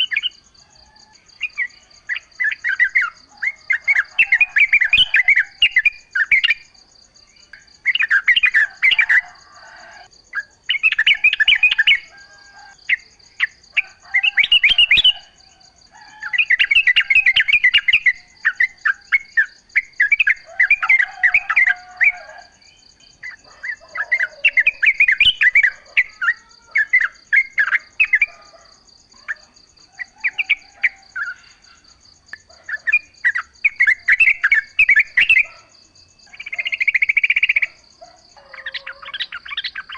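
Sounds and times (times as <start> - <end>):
bulbul singing: 0.0 - 6.7, 7.4 - 39.9.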